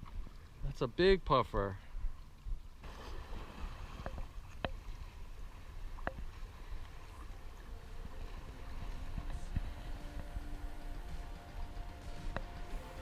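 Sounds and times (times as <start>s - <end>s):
wind rumble on microphone: 1.9s - 13.0s.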